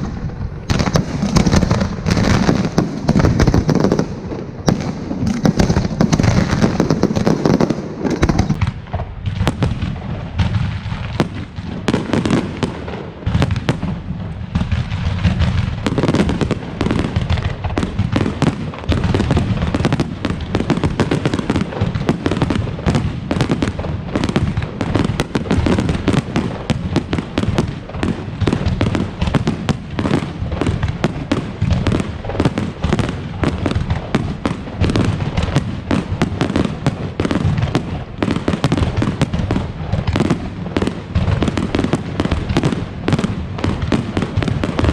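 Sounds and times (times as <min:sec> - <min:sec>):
fireworks barrage: 0:00.0 - 0:44.9.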